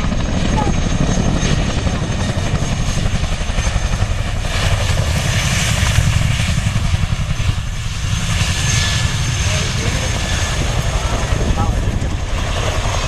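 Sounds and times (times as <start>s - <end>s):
helicopter rotors thudding: 0.0s - 13.0s.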